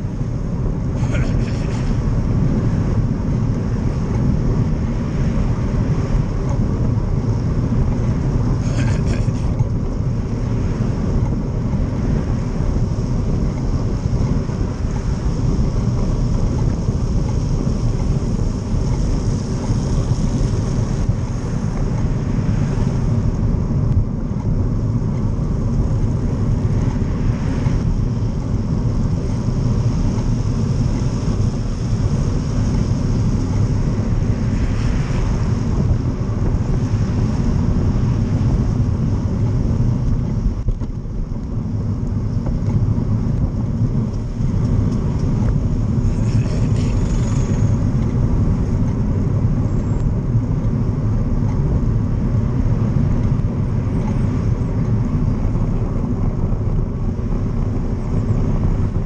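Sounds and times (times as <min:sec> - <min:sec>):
road noise on wet street: 0:00.0 - 0:59.0
traffic: 0:00.0 - 0:59.0
wind buffeting microphone: 0:00.0 - 0:59.0.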